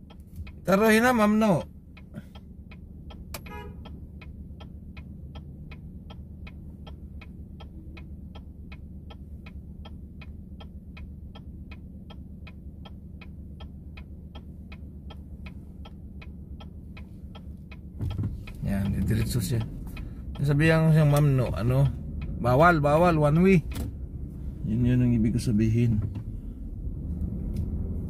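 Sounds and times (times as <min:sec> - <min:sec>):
low engine and road hum: 0:00.0 - 0:28.0
turn signal ticking: 0:00.0 - 0:28.0.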